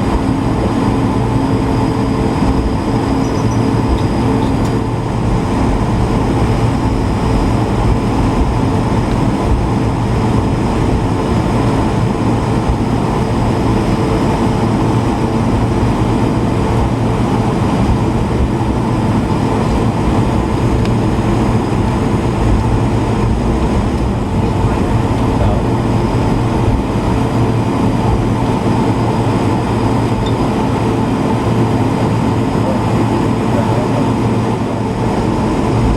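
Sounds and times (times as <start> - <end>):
airflow noise: 0.0 - 35.9
jet engines roaring in cabin: 0.0 - 35.9.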